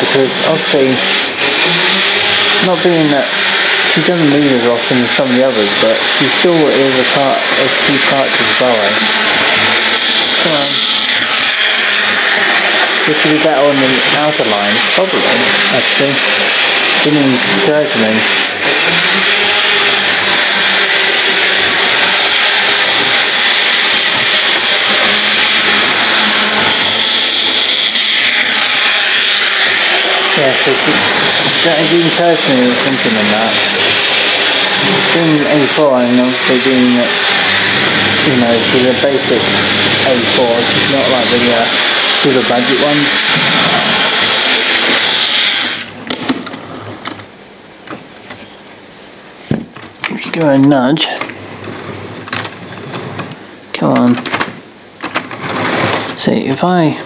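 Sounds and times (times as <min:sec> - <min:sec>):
model train whirring on track: 0:00.0 - 0:45.9.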